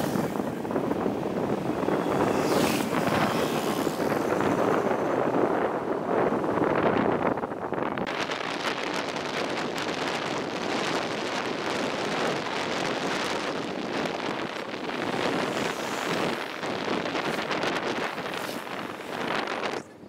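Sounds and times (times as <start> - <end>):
wind rushing: 0.0 - 19.9
road noise in moving car: 0.0 - 20.0
wind buffeting microphone: 0.0 - 20.0.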